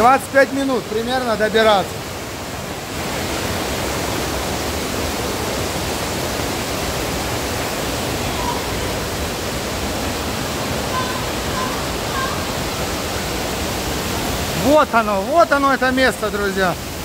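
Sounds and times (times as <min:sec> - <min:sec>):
waterfall and stream rushing: 0:00.0 - 0:17.0.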